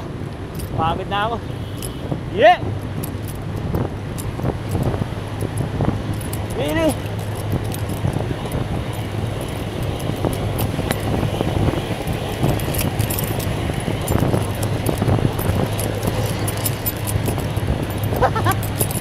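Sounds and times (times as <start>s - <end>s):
road traffic noise: 0.0s - 19.0s
bicycle rattling clicks: 1.6s - 2.1s, 2.8s - 19.0s.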